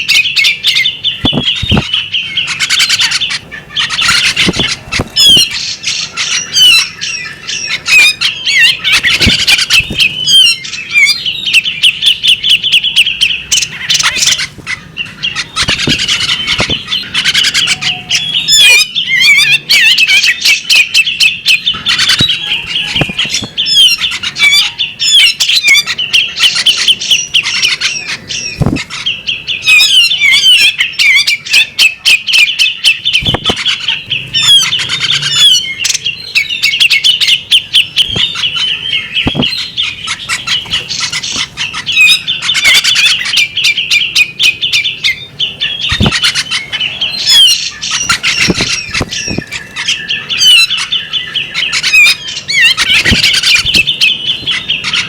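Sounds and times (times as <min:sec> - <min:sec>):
bird singing chirps and trills: 0:00.0 - 0:55.0.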